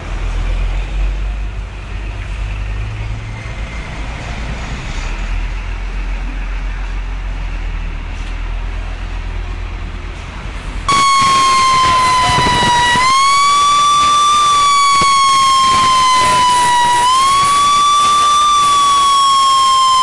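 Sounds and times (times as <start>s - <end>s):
heavy engines rumbling: 0.0s - 20.0s
tyres on road: 0.0s - 20.0s.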